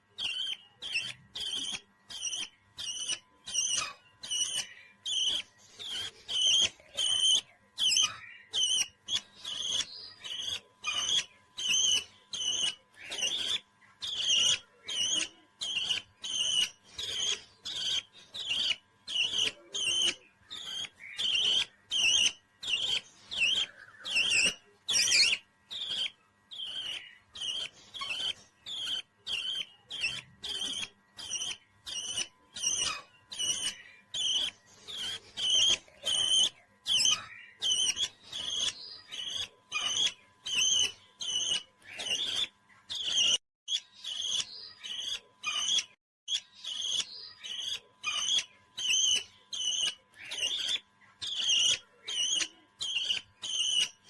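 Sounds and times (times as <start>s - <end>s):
parrot chirping: 0.0s - 54.0s.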